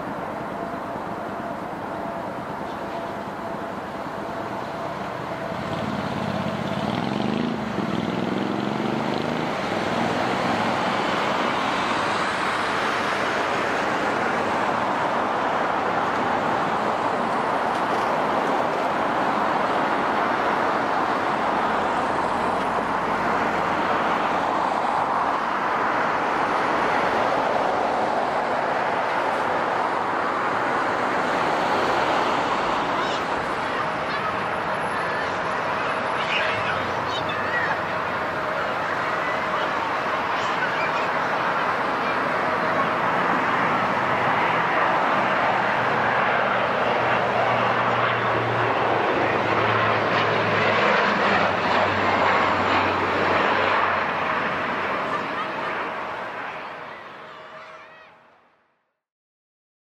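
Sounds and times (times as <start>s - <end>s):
jet engines roaring at takeoff: 0.0s - 57.3s.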